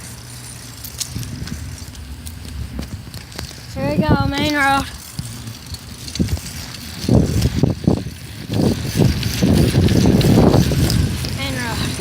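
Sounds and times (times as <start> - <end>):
bicycle road rumble: 0.0 - 12.0
wind on microphone: 1.1 - 12.0.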